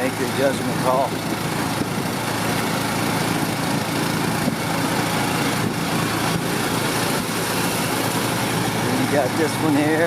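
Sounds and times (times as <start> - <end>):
road and wind noise: 0.0 - 10.0
small engine running: 0.0 - 10.0.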